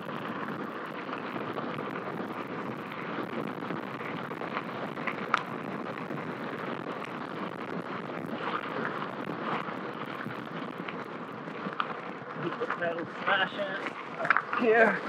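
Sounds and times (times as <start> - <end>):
bicycle tyre noise: 0.0 - 15.0
wind rushing over microphone: 0.0 - 15.0.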